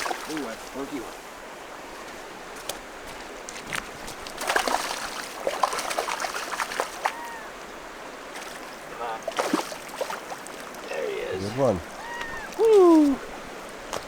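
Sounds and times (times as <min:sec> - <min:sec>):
river water trickling: 0:00.0 - 0:14.0
water splashing and sloshing: 0:00.0 - 0:14.0.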